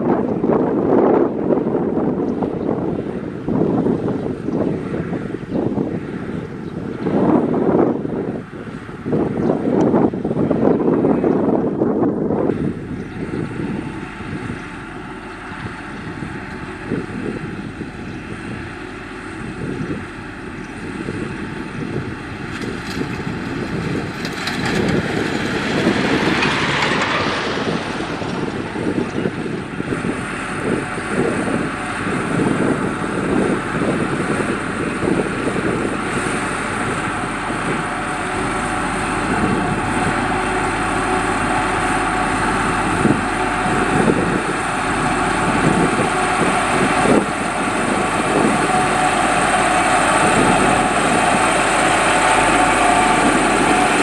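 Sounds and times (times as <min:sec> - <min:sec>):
road roller diesel engine running: 0:00.0 - 0:54.0.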